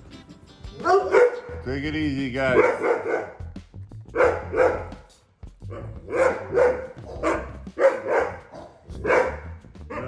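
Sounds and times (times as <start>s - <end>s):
dogs barking: 0.8s - 1.6s, 2.4s - 10.0s.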